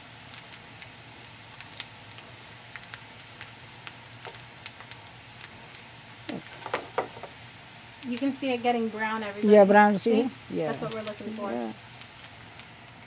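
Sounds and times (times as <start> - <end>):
crackles and pops: 0.0 - 13.0
onions sizzling in oil: 0.0 - 13.0.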